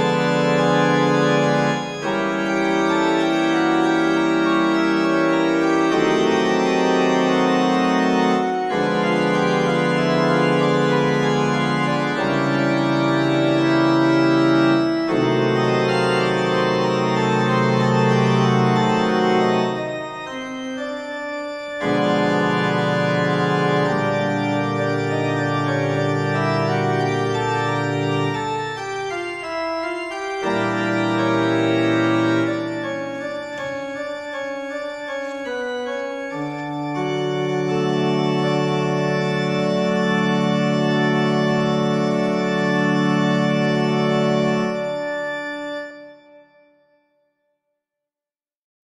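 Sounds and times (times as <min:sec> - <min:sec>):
organ chords: 0:00.0 - 0:46.9.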